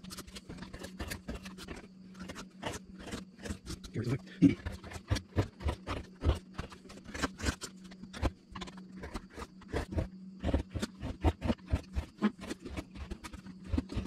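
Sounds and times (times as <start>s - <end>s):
faint steady hum: 0.0s - 14.0s
gouge chipping wood: 0.0s - 14.0s.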